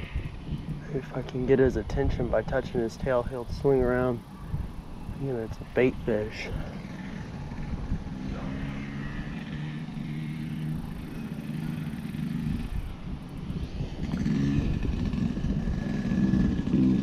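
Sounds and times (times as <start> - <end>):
motor engine humming: 0.0 - 17.0.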